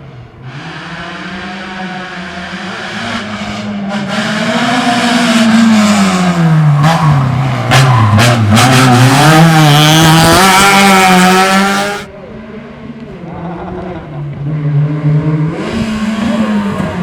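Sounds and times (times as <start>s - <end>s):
racing car engine: 0.0s - 17.0s.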